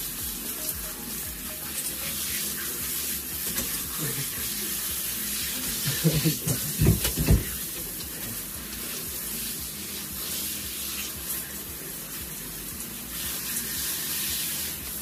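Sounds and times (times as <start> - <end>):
shower spraying: 0.0 - 15.0.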